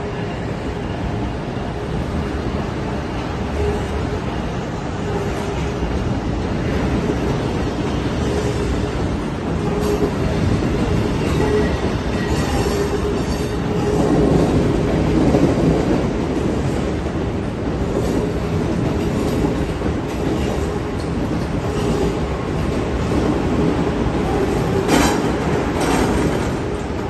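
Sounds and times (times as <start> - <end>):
train wheels rumbling and clacking: 0.0 - 27.0.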